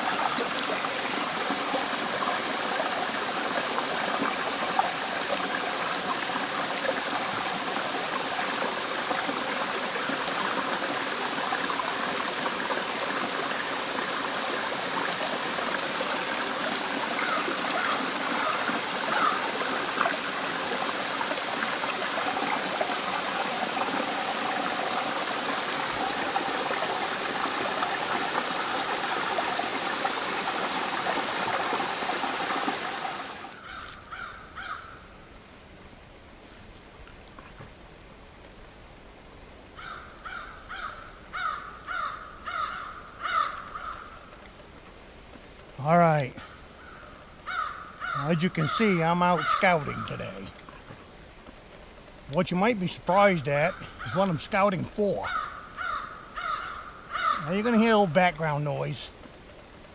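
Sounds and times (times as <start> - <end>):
small waterfall splashing: 0.0 - 34.6, 35.3 - 59.9.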